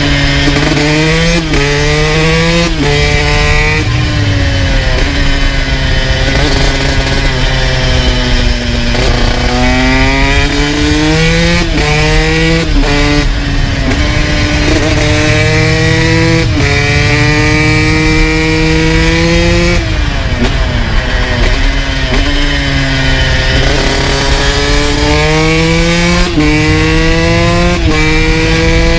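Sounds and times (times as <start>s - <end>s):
two-stroke engine revving: 0.0s - 28.9s.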